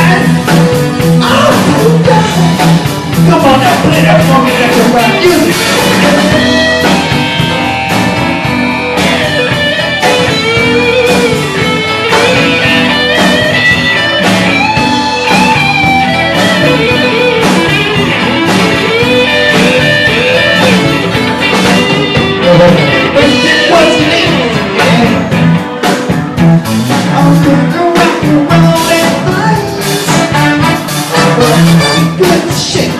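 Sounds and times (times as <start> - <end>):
drum kit: 0.0 - 32.9
electric guitar lead: 0.0 - 32.9.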